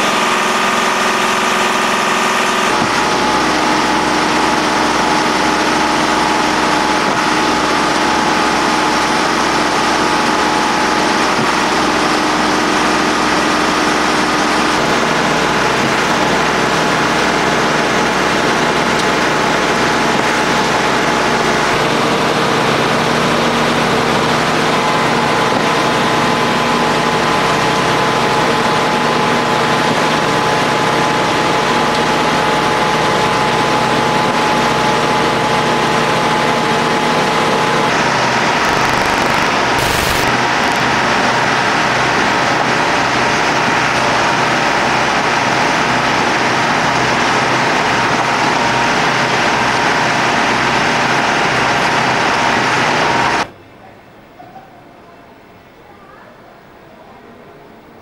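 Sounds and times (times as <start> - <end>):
construction machinery diesel engine: 0.0 - 53.5.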